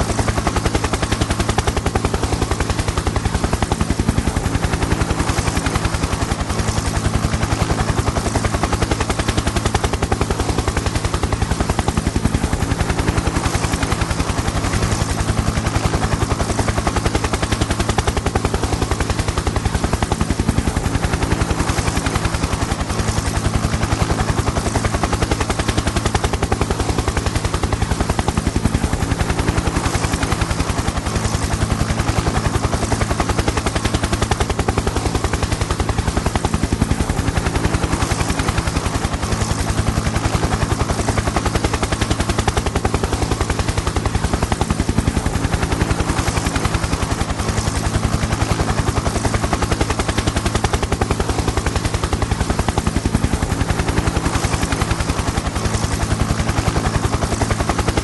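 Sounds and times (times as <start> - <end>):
helicopter engine drone: 0.0 - 58.0
helicopter rotor blades chopping: 0.0 - 58.0.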